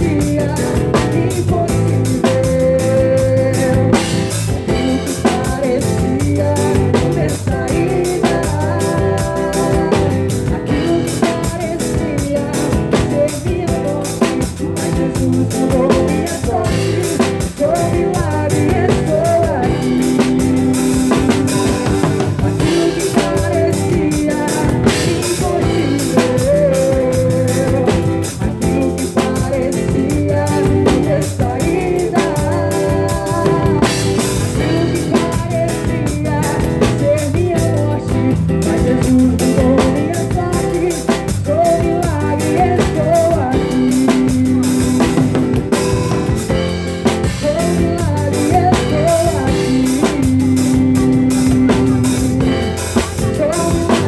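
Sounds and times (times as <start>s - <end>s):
drum kit beat: 0.0s - 54.0s
guitar: 0.0s - 54.0s
live band playing: 0.0s - 54.0s.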